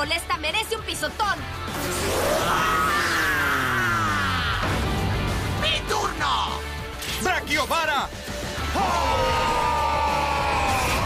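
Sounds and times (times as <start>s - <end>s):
action soundtrack music: 0.0s - 11.0s.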